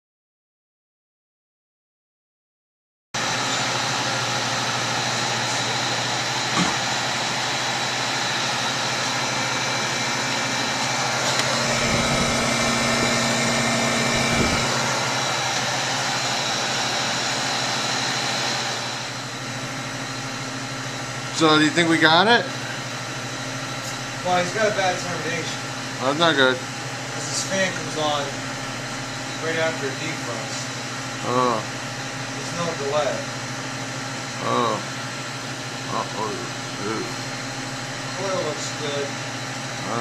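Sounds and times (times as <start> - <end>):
refrigeration machinery humming: 3.2 - 40.0.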